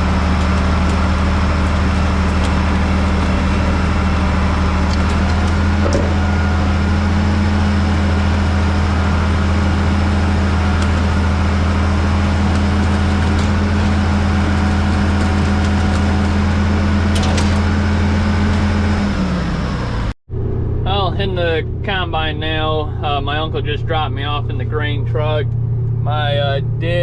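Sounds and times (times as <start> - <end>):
large engine humming: 0.0 - 27.0.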